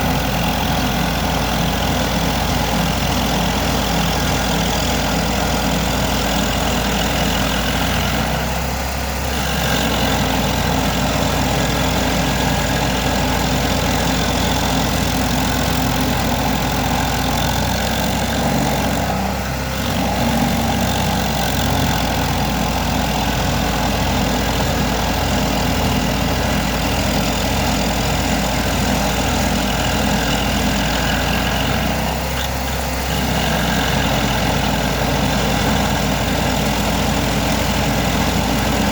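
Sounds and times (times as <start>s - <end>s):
stump grinder engine running: 0.0s - 38.9s.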